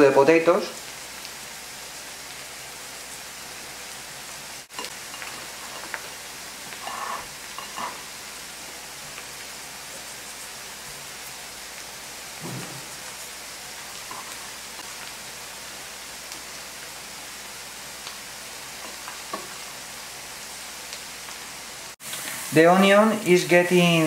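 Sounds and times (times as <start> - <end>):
onion sizzling in a pan: 0.0 - 24.0.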